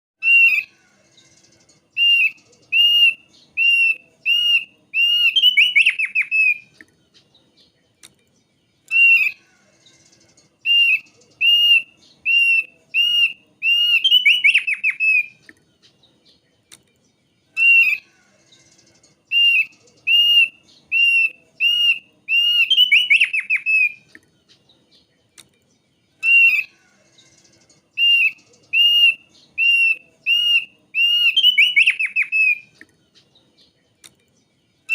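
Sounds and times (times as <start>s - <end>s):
bird whistling song: 0.2s - 8.1s, 8.7s - 16.8s, 17.4s - 25.1s, 26.0s - 34.2s.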